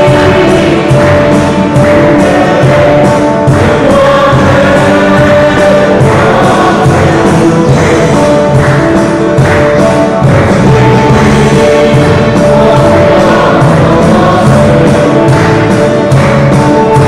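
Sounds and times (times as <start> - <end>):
mixed choir singing a hymn: 0.0 - 17.0.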